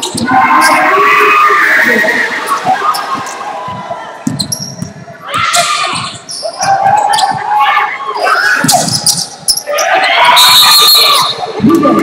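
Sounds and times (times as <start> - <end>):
people shouting in a hall: 0.0 - 4.3, 5.1 - 12.0.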